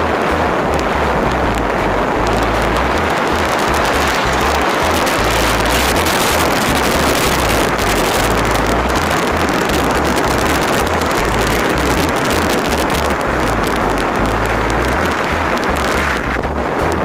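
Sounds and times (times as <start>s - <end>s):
engine and road noise: 0.0s - 17.0s
wind rushing over microphone: 0.0s - 17.0s.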